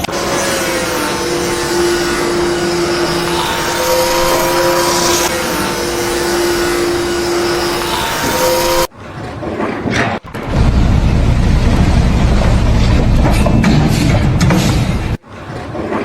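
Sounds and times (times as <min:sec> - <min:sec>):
engine running: 0:00.0 - 0:08.9, 0:10.3 - 0:15.2.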